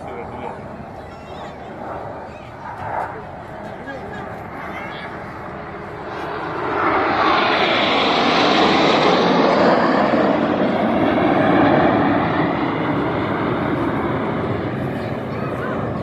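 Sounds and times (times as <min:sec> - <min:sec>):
jet aircraft flying overhead: 0:00.0 - 0:16.0.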